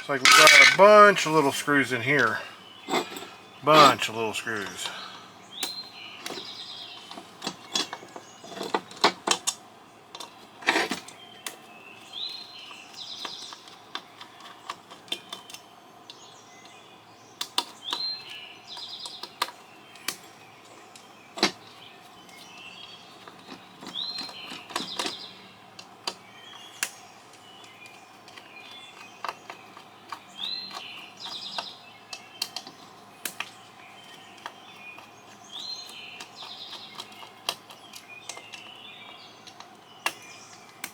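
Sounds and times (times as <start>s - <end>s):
bird song with trill: 0.0s - 9.0s, 11.1s - 40.9s.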